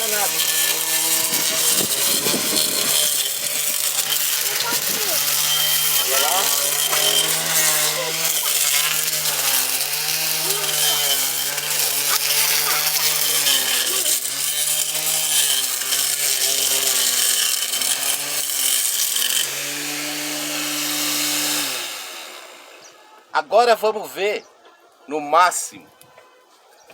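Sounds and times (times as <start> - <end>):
blade chopping weeds: 0.0 - 21.8
blender motor weed trimmer whining: 0.0 - 23.0.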